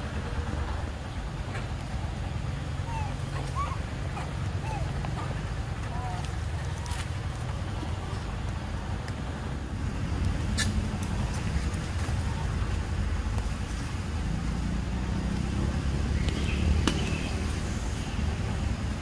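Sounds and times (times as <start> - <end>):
low rumbling noise: 0.0 - 19.0.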